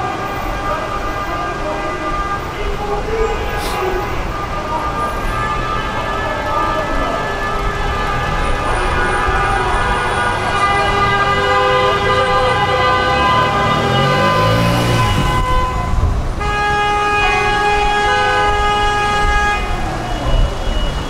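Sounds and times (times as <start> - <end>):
motor vehicle traffic rumble: 0.0 - 21.0.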